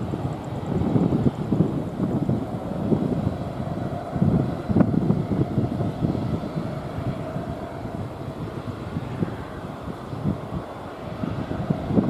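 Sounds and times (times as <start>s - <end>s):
jet engines rumbling: 0.0s - 12.0s
wind buffeting microphone: 0.0s - 12.0s.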